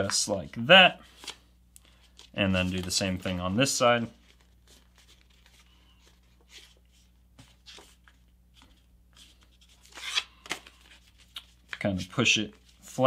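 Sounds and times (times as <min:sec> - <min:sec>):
paper rustling and creasing: 0:01.0 - 0:13.0.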